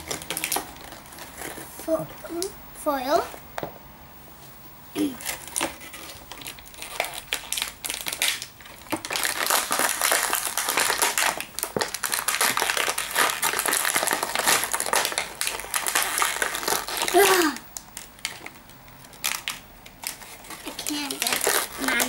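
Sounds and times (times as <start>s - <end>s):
plastic packaging crinkling: 0.0s - 2.5s, 5.0s - 22.0s.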